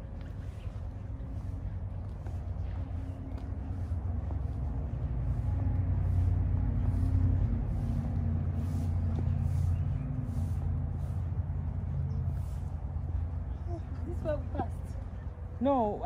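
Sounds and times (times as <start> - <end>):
vehicle rumbling on road: 0.0 - 16.0.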